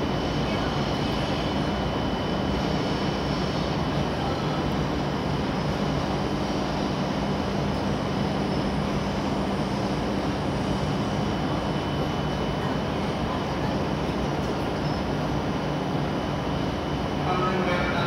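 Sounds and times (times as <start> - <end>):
faint high whine: 0.0 - 18.0
railway station hum and whoosh: 0.0 - 18.0.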